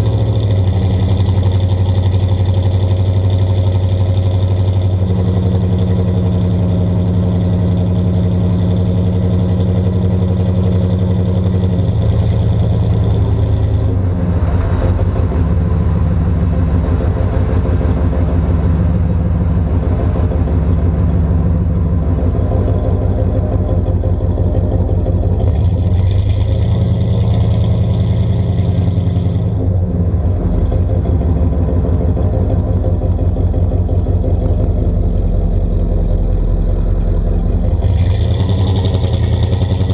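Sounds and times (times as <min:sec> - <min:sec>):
pickup truck engine driving under load: 0:00.0 - 0:39.9.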